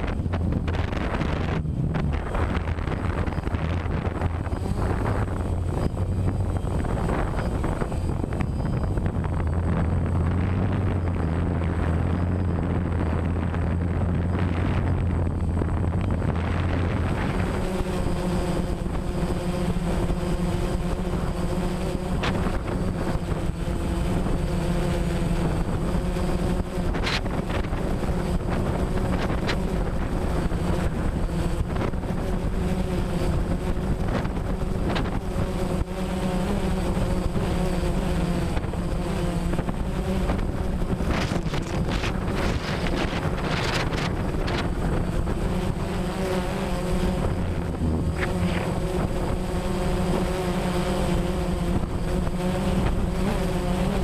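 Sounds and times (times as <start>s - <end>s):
drone propellers whirring: 0.0s - 54.0s
wind noise on microphone: 0.0s - 54.0s.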